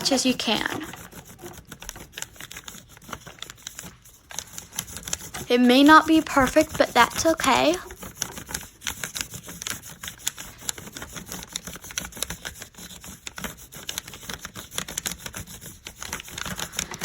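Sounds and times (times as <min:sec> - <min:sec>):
crayon rubbing on paper: 0:00.0 - 0:17.0.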